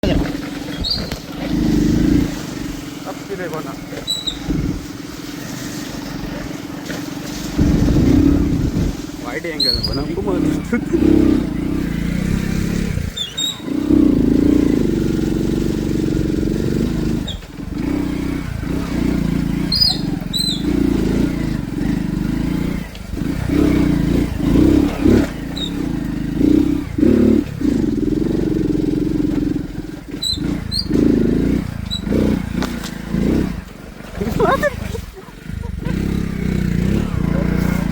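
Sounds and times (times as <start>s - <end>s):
engine running with wavering pitch: 0.0s - 37.9s.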